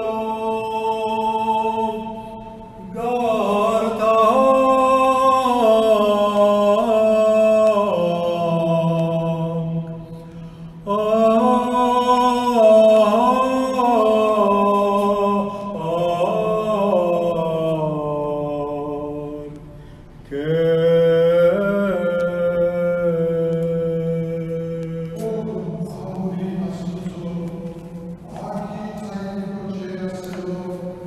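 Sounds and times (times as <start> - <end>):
man chanting: 0.0 - 10.1, 10.8 - 19.6, 20.3 - 31.0.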